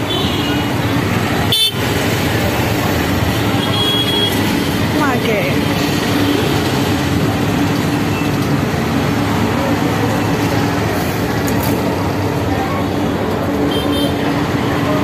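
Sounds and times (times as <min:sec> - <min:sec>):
vehicle traffic: 0:00.0 - 0:15.0.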